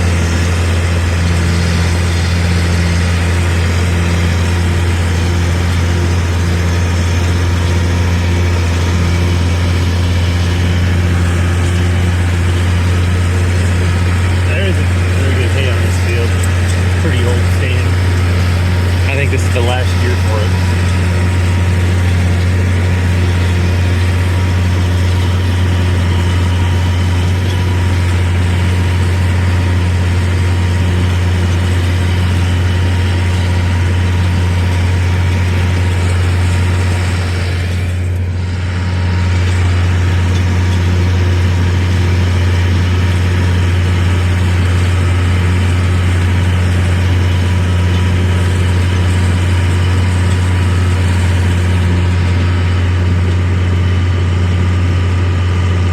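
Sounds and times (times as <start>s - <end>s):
tractor engine droning: 0.0s - 55.9s.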